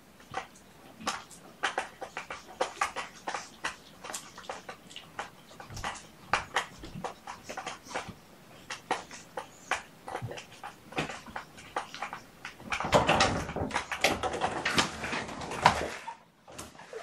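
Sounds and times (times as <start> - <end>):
cat litter scooping and scraping: 0.9 - 17.0.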